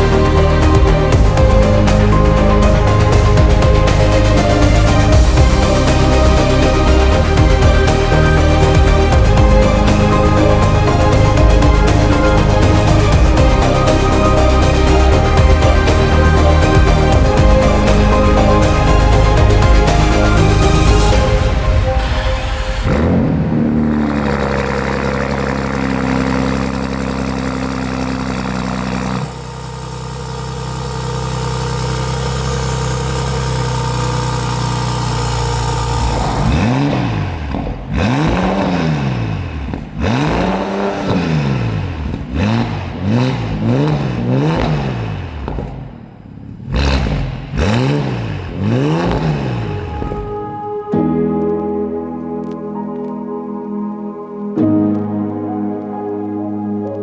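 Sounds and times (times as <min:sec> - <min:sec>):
car engine running and revving: 0:00.0 - 0:50.5.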